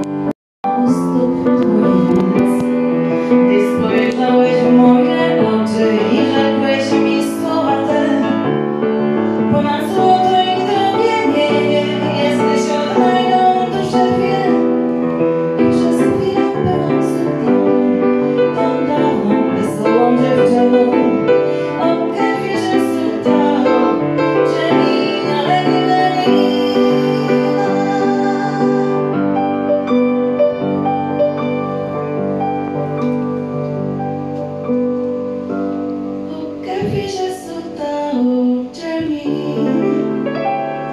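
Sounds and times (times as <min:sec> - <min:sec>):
grand piano accompaniment: 0:00.0 - 0:40.9
woman singing into microphone: 0:00.7 - 0:08.6, 0:09.3 - 0:29.6, 0:36.2 - 0:40.9.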